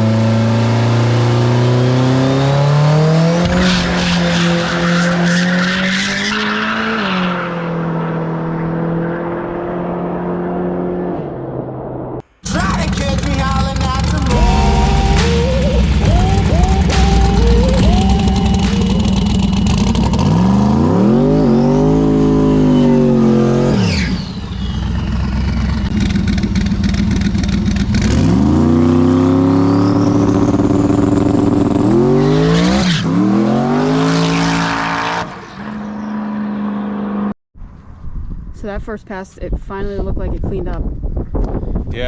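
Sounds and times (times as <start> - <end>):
drag car engine revving: 0.0 - 37.2.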